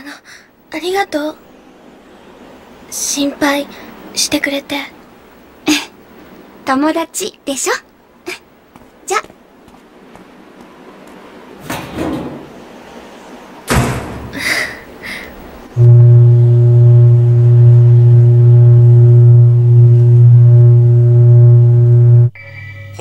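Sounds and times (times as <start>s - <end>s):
electrical hum of power lines: 0.0s - 22.4s.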